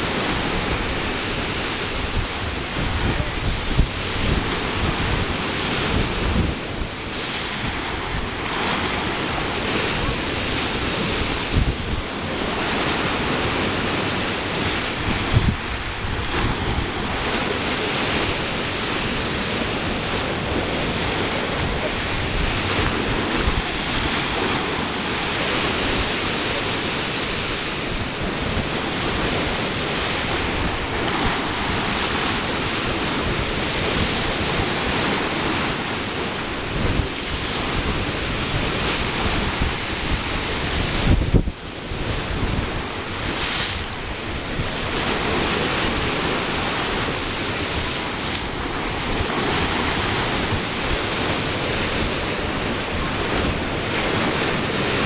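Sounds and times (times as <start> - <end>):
sea surf breaking on shore: 0.0 - 55.0
wind buffeting microphone: 0.0 - 55.0.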